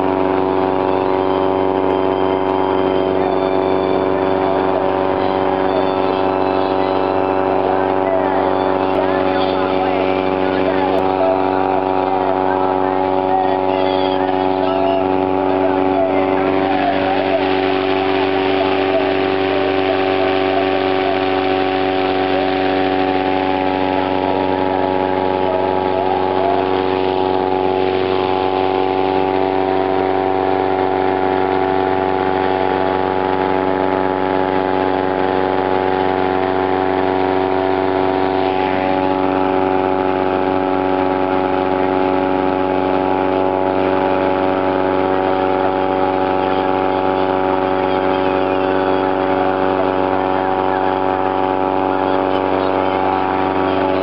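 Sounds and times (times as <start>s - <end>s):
engine humming steadily: 0.0s - 54.0s.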